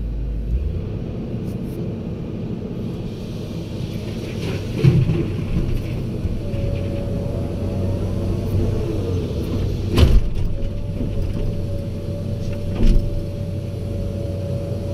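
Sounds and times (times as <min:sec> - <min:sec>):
diesel machinery rumbling: 0:00.0 - 0:14.9.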